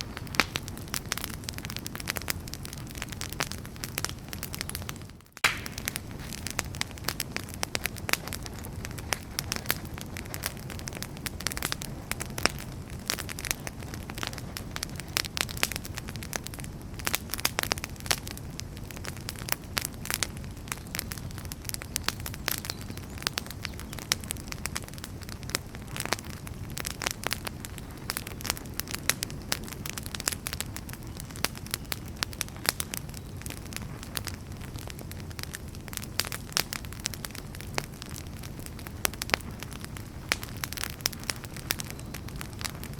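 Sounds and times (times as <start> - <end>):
flame rushing: 0.0 - 20.9, 24.0 - 42.9
firewood crackling and popping: 0.0 - 42.9.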